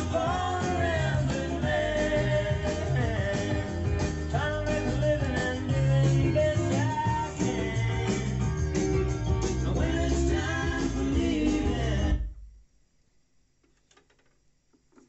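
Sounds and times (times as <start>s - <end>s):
song from vinyl record: 0.0s - 12.6s.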